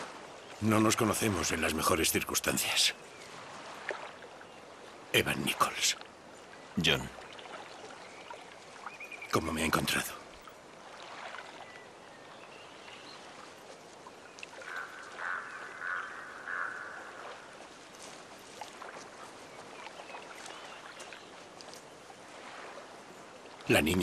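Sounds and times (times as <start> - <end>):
water lapping: 0.0 - 24.0
bird calling: 0.1 - 22.8.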